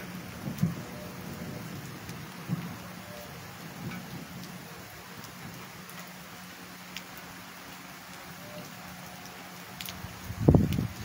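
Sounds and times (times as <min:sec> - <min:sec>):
rain falling on grass: 0:00.0 - 0:11.0.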